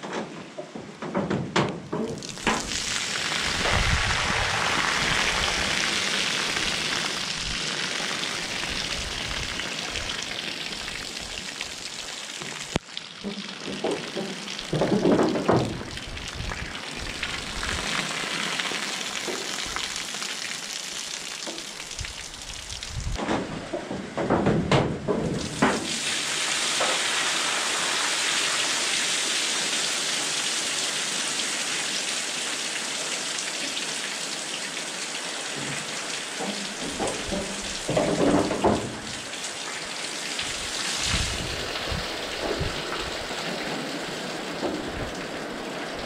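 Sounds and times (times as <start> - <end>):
rain on a metal roof: 0.0 - 46.0
water dripping and streaming: 0.4 - 24.2, 25.0 - 46.0.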